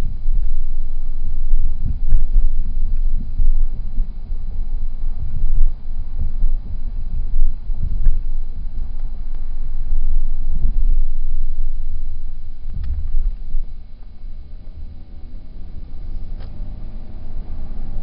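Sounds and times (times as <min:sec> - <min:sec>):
road and wind rumble in car: 0:00.0 - 0:18.0.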